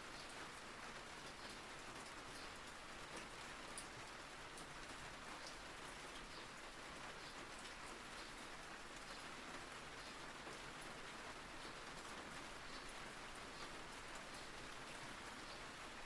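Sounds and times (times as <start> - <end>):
soft rain: 0.0 - 16.0.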